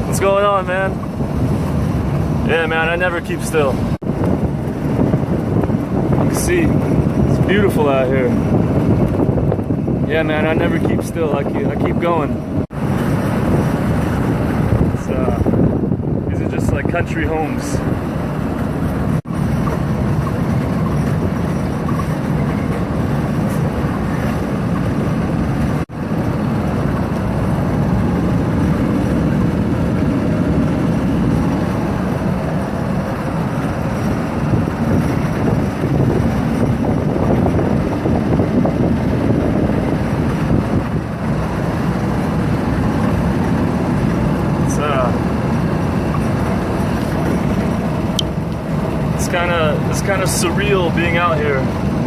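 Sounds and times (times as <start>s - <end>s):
vehicle engine and road rumble: 0.0s - 52.0s
wind buffeting microphone: 0.0s - 52.0s.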